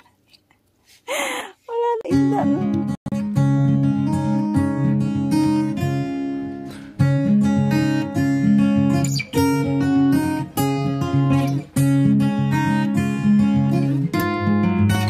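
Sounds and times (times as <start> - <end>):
strummed acoustic guitar: 2.1 - 15.0.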